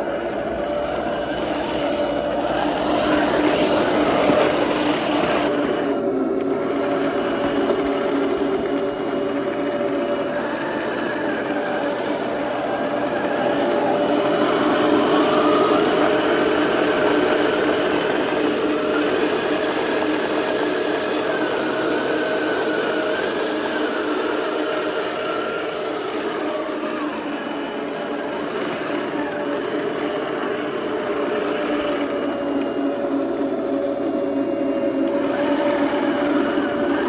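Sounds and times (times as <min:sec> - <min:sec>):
toy tank motor whirring: 0:00.0 - 0:37.0.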